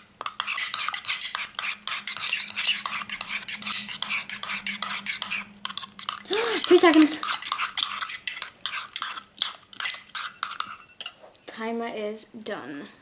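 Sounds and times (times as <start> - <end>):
slime being stirred in a container: 0.0 - 11.2.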